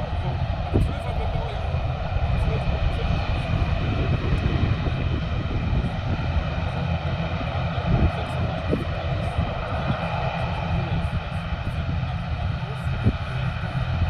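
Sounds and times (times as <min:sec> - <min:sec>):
jet engines rumbling and whining: 0:00.0 - 0:14.0.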